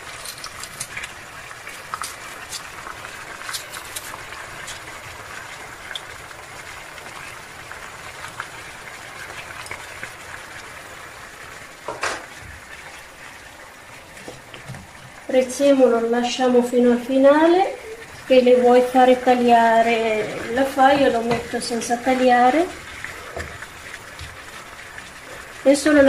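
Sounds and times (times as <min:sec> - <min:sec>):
meat and onions sizzling in a pan: 0:00.0 - 0:26.0.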